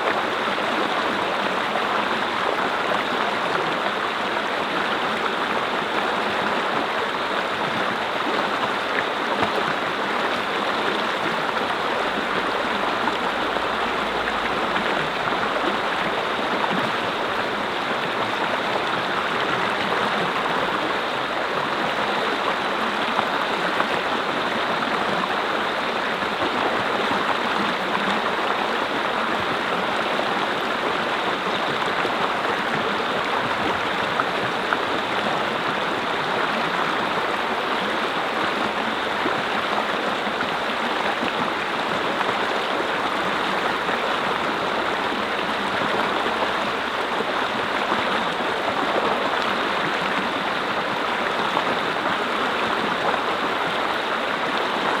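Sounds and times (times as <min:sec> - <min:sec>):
brook flowing over stones: 0:00.0 - 0:55.0.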